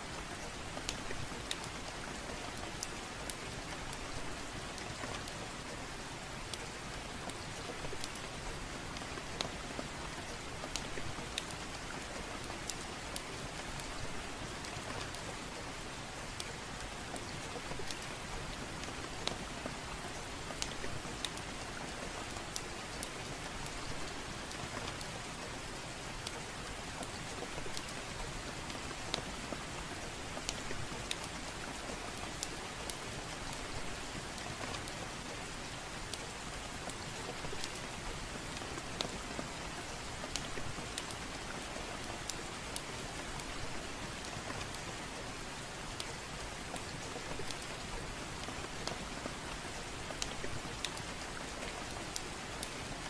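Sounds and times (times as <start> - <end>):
soft rain hissing: 0.0 - 53.0.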